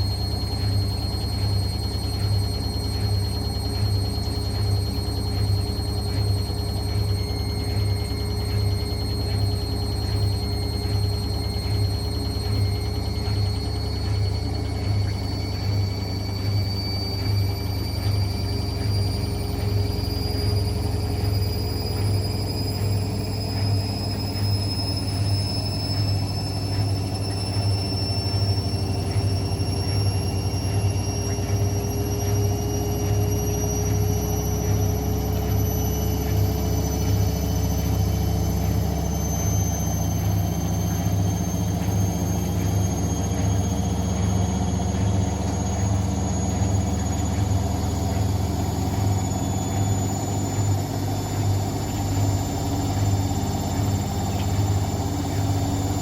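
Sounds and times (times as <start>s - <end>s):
high whine rising in pitch: 0.0s - 56.0s
washing machine motor hum: 0.0s - 56.0s.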